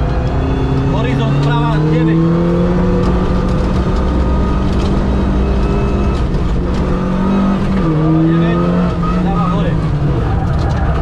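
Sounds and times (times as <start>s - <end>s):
car engine at high revs: 0.0s - 11.0s
car rattling over cobblestones: 0.0s - 11.0s.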